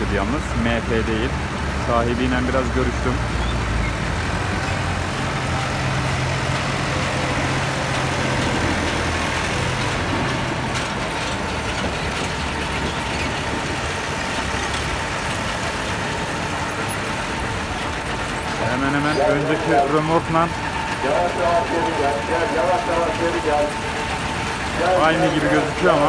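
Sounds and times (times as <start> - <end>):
machinery noise: 0.0 - 26.0
tractor diesel engine under load: 0.0 - 26.0.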